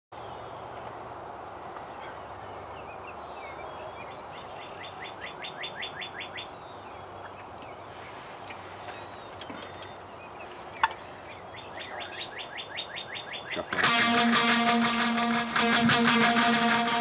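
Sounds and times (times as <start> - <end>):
birds chirping: 0.2 - 17.0.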